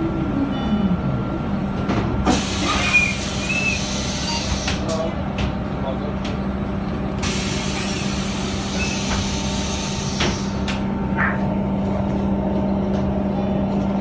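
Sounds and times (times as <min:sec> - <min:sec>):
bus engine hum: 0:00.0 - 0:14.0.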